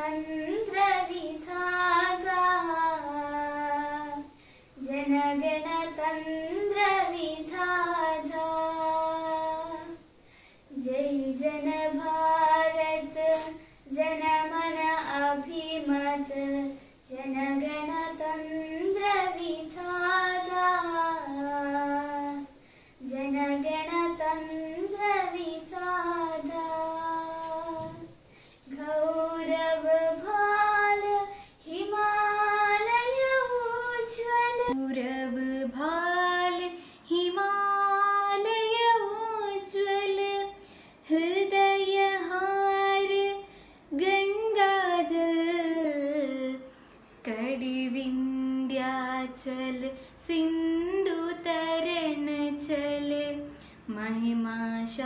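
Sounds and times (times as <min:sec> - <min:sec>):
girl singing unaccompanied: 0:00.0 - 0:55.0
second girl singing: 0:00.0 - 0:55.0.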